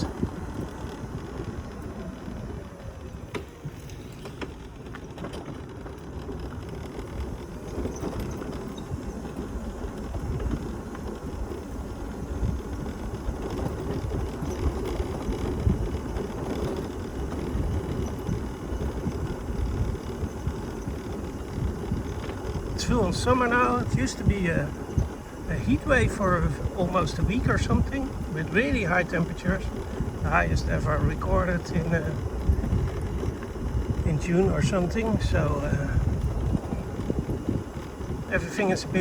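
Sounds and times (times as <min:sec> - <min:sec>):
mobility scooter rumbling: 0:00.0 - 0:39.0
scooter body rattling: 0:00.0 - 0:39.0.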